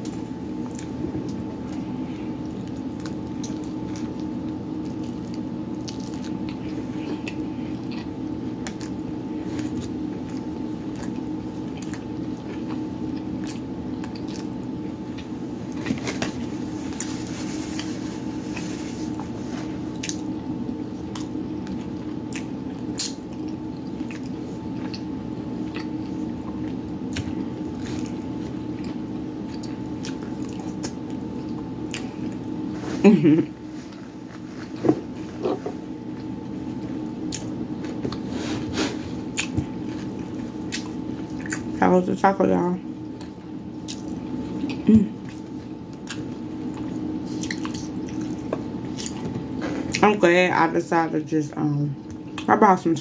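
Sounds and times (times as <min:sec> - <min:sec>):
chewing and biting food: 0:00.0 - 0:32.6, 0:35.4 - 0:38.4, 0:39.2 - 0:41.8, 0:43.0 - 0:50.0.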